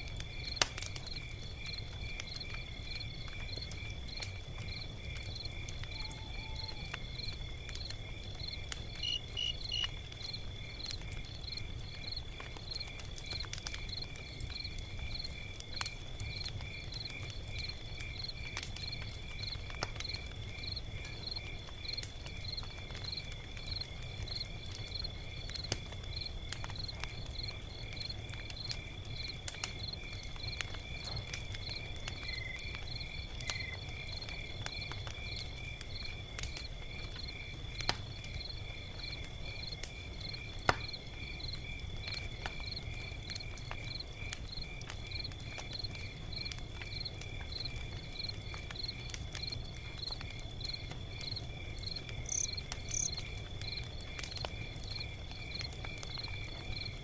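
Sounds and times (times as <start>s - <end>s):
log fire crackling: 0.0s - 57.0s
crickets chirping: 0.1s - 57.0s.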